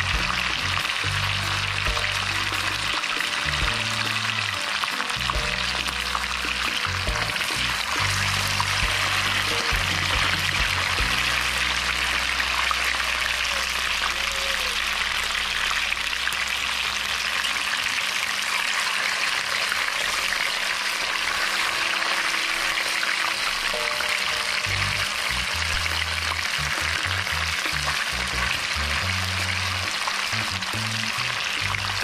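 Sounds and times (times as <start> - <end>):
fish frying in hot oil: 0.0 - 32.0.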